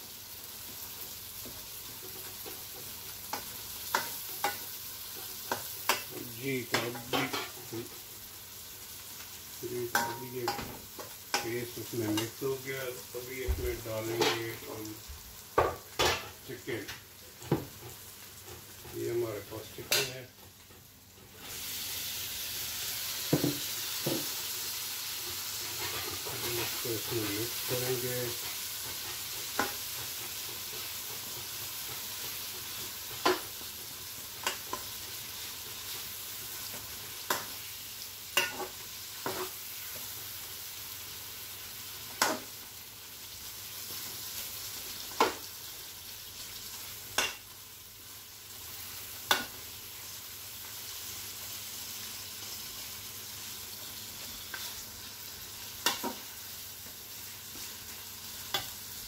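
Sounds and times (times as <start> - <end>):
chicken sizzling in hot fat: 0.0 - 59.0.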